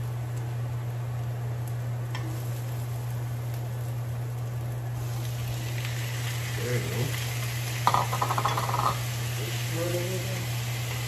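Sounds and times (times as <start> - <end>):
garlic and onions sizzling in pan: 0.0 - 11.0.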